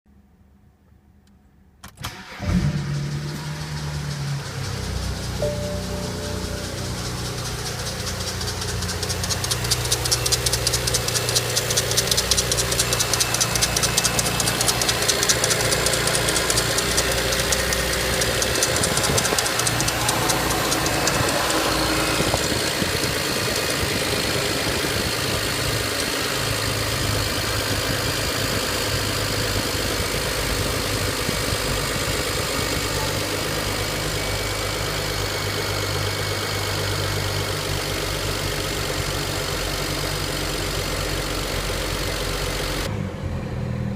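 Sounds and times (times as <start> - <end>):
engine ticking and rattling: 2.1 - 43.0
car engine idling: 2.1 - 43.2.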